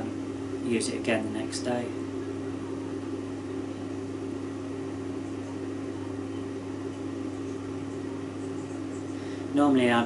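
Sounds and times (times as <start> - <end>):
oven fan humming: 0.0 - 10.0.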